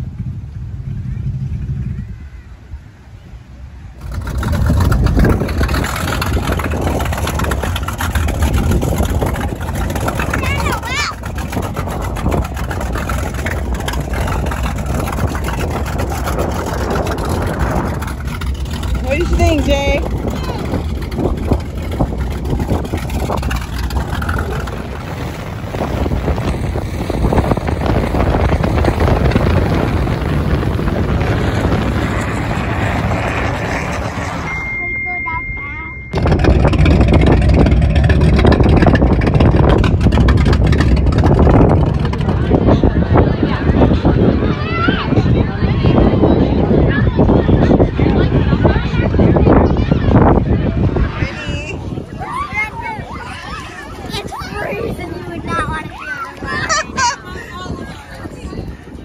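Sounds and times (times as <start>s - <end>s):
wind and water rushing: 0.0s - 34.8s, 36.1s - 59.0s
boat engine rumble: 0.0s - 59.0s.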